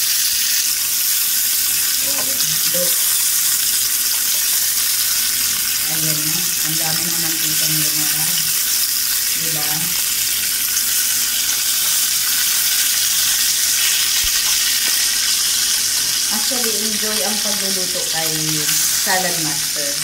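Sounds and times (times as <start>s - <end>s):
pork sizzling in a skillet: 0.0s - 20.0s.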